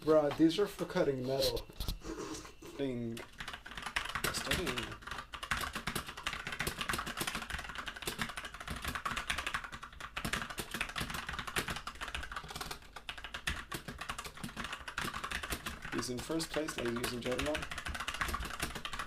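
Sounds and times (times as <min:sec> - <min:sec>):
mechanical keyboard typing: 0:03.1 - 0:19.0.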